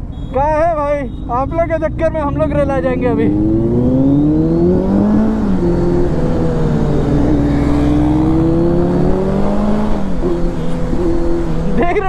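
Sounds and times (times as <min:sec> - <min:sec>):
motorcycle engine accelerating: 0:01.3 - 0:11.9.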